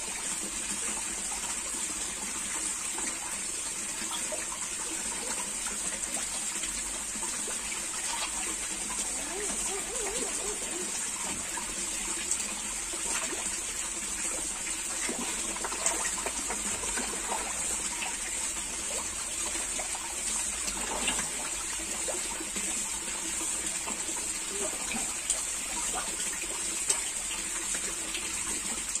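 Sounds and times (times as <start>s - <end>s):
pond water running: 0.0s - 29.0s.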